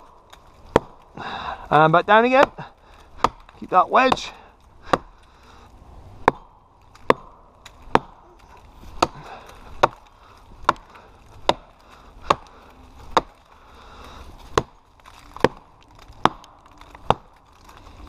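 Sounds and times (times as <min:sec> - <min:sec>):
axe chopping tree trunk: 0:00.0 - 0:05.4, 0:06.2 - 0:13.6, 0:14.4 - 0:17.6.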